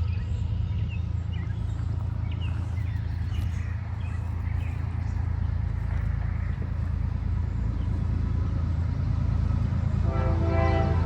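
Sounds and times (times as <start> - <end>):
birds chirping: 0.0 - 10.0
steady low rumble: 0.0 - 11.0.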